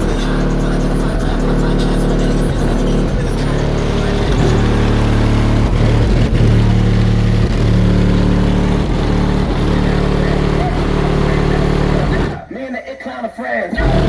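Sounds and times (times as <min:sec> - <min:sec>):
deep bass notes: 0:00.0 - 0:12.5, 0:13.8 - 0:14.0
hip-hop beat through car subwoofers: 0:00.0 - 0:14.0.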